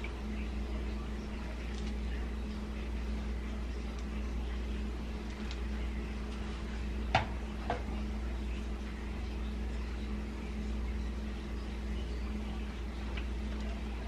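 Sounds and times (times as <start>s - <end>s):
low hum with faint hiss: 0.0s - 14.0s.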